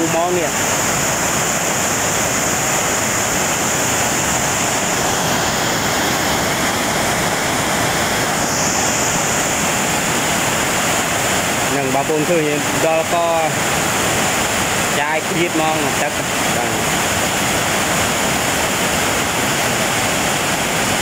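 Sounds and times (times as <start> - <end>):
rapids rushing over rocks: 0.0 - 21.0.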